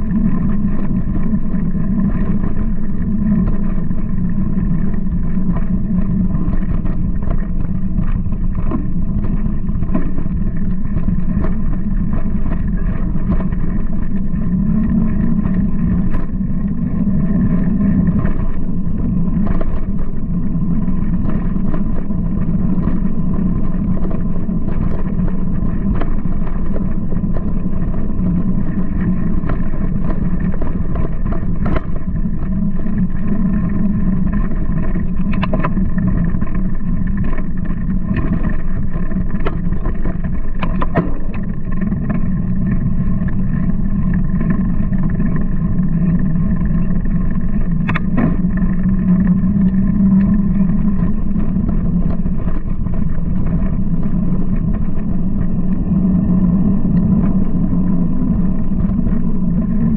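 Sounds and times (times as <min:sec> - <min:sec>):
wind and tyre rumble: 0:00.0 - 0:59.9.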